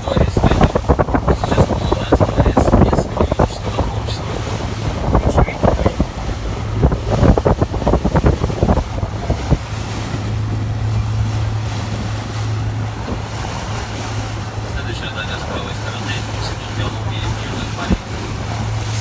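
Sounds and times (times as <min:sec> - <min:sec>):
boat engine drone: 0:00.0 - 0:19.0
wind buffeting microphone: 0:00.0 - 0:19.0.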